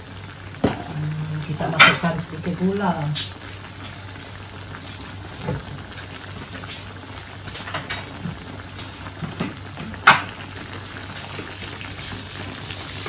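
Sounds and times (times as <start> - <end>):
broth simmering and bubbling: 0.0 - 13.0.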